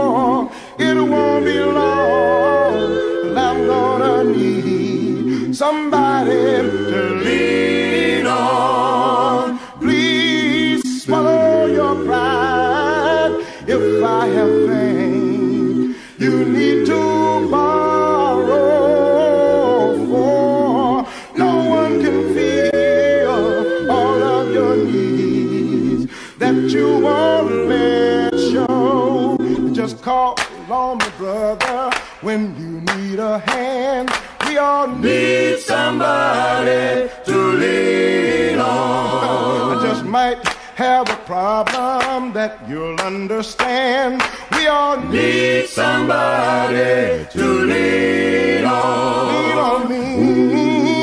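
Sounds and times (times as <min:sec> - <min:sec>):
a cappella group singing harmony: 0:00.0 - 0:51.0.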